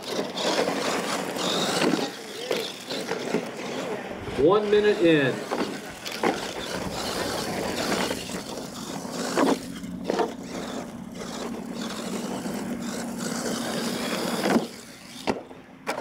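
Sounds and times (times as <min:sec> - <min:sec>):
toy truck motor hum: 0:00.0 - 0:16.0
tyres rushing in dirt: 0:00.0 - 0:16.0.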